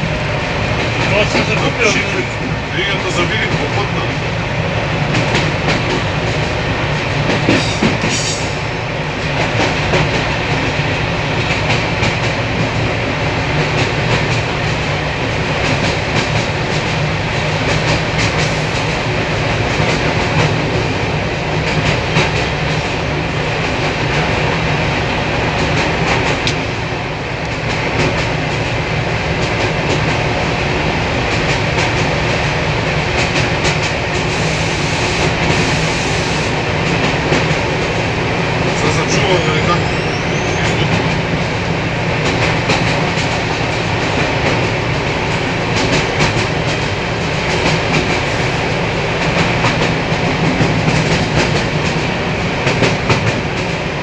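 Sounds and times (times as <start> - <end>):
locomotive engine drone: 0.0 - 54.0.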